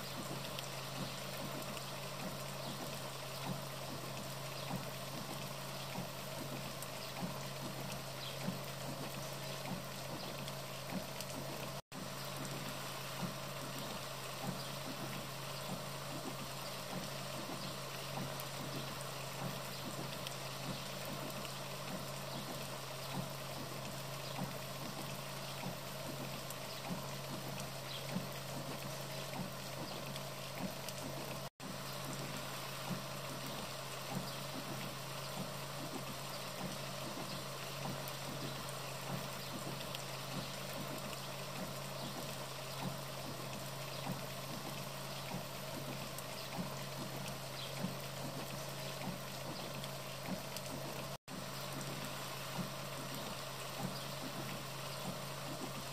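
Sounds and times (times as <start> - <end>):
small water drips: 0.0 - 55.9.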